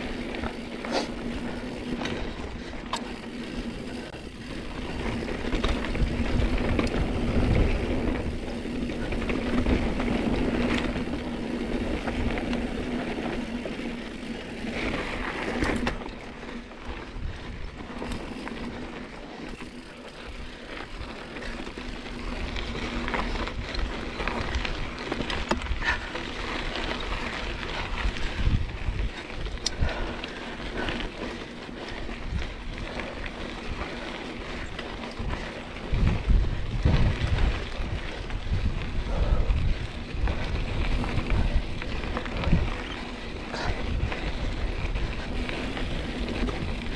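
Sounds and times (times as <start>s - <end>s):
bike tyre and drivetrain noise: 0.0s - 46.9s
wind rumbling on microphone: 0.0s - 46.9s.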